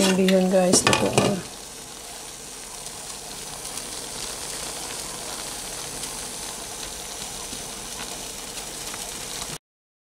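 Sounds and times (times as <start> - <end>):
noodles sizzling in a wok: 0.0 - 9.6.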